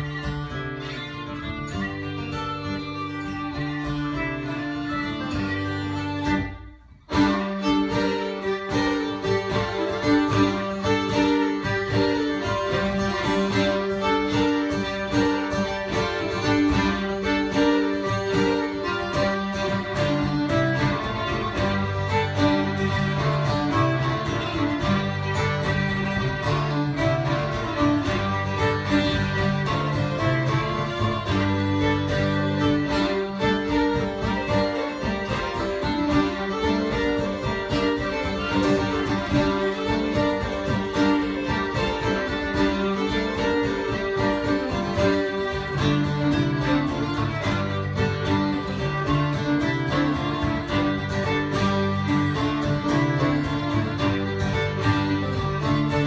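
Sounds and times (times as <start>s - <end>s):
acoustic guitar: 0.0s - 56.0s
fiddles playing folk dance tune: 0.0s - 56.0s.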